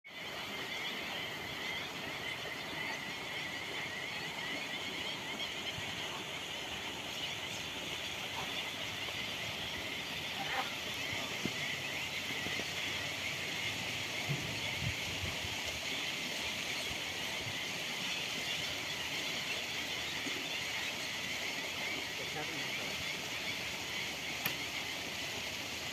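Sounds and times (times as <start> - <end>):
many birds chirping: 0.1 - 25.9.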